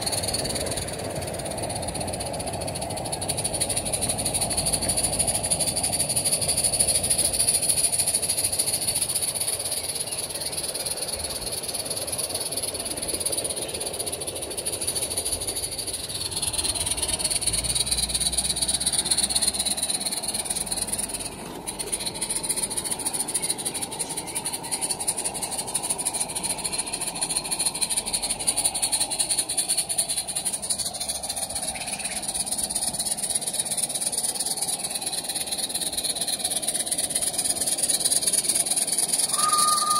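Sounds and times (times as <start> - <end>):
steam locomotive hissing and chuffing: 0.0 - 39.9.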